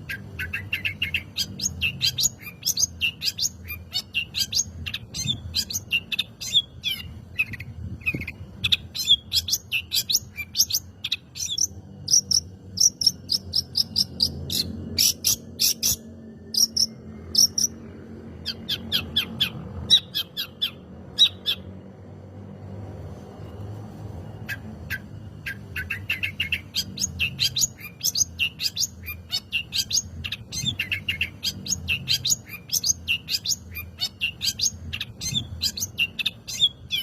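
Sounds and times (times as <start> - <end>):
shrike singing chattering song: 0.0 - 22.1, 24.3 - 37.0.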